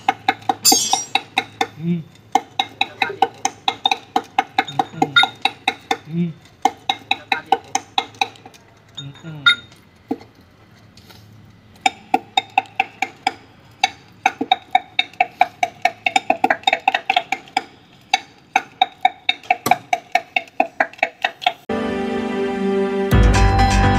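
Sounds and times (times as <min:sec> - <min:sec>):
sharp metallic taps ringing: 0:00.0 - 0:09.7, 0:11.8 - 0:21.6.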